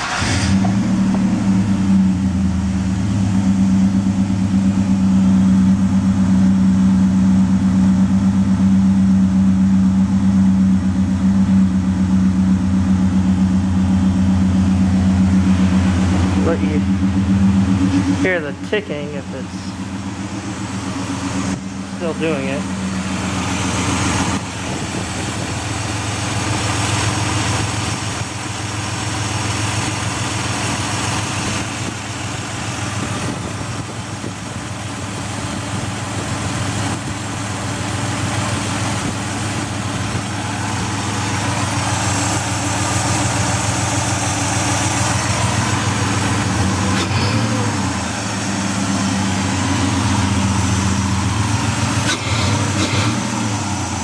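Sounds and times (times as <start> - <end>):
car engine rough idling: 0.0 - 54.0.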